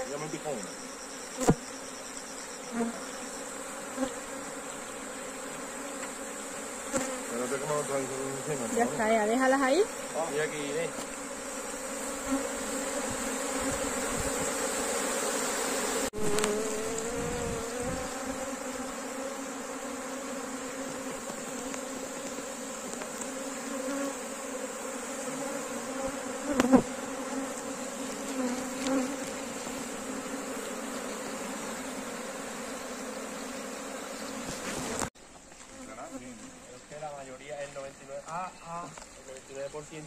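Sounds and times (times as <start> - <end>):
bee swarm buzzing: 0.0 - 37.2.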